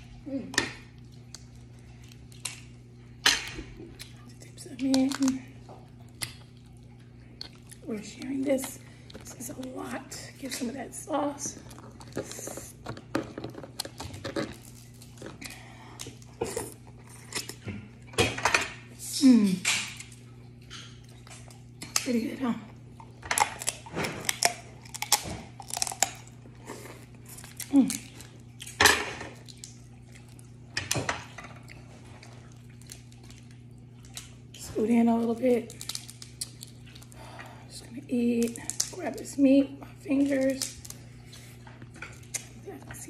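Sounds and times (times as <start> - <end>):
wet chewing: 0.0 - 18.1, 19.7 - 43.0
steady low hum: 0.0 - 43.0
crab shells cracking: 0.6 - 10.7, 11.4 - 18.6, 23.0 - 34.5, 35.3 - 37.4, 38.2 - 39.3, 40.1 - 42.6.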